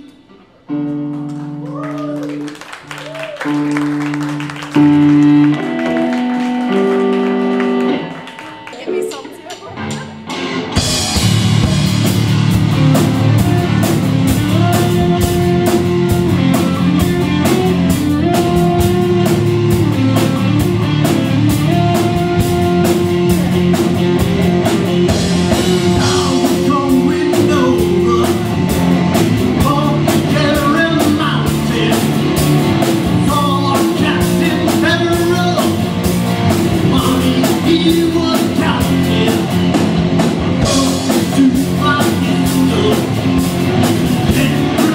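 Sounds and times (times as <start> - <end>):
electric bass: 0.0 - 8.3, 9.7 - 44.9
electric guitars: 0.0 - 44.9
drum kit with cymbals: 8.8 - 44.9.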